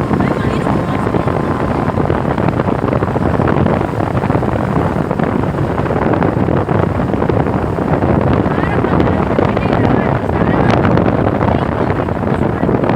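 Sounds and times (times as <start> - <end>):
wind blowing across microphone: 0.0 - 12.9.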